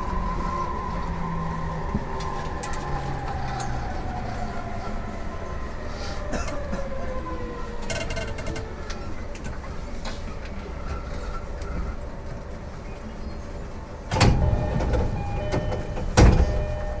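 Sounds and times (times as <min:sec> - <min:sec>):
train running rumble: 0:00.0 - 0:17.0
train sliding doors opening: 0:00.0 - 0:17.0.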